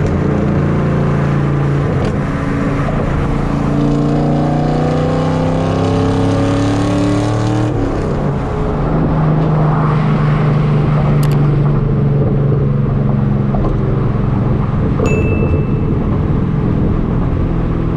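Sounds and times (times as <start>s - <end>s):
car exhaust accelerating: 0.0s - 17.9s.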